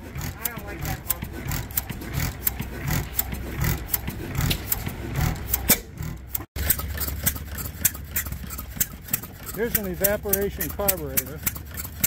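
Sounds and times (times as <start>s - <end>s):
stationary gas engine running: 0.0s - 12.0s
valve gear clatter: 0.0s - 12.0s.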